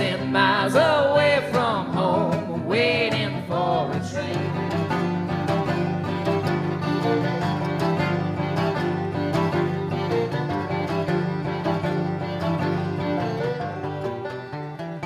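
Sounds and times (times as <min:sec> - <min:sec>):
banjo notes: 0:00.0 - 0:15.0
plucked guitar: 0:00.0 - 0:15.0.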